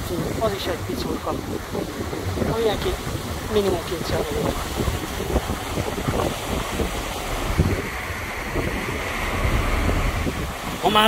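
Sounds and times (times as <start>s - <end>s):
churning wake water rushing: 0.0s - 11.0s
wind buffeting microphone: 0.0s - 11.0s.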